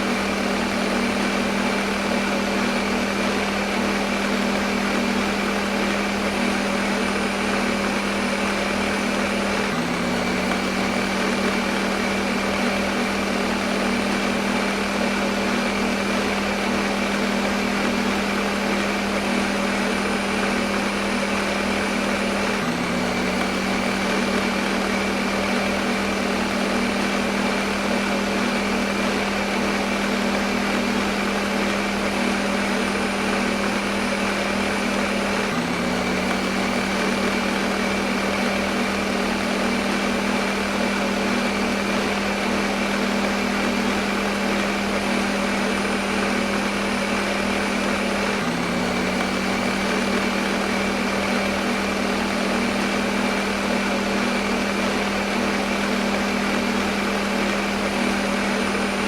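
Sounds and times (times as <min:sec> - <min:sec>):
blender motor running: 0:00.0 - 0:59.0.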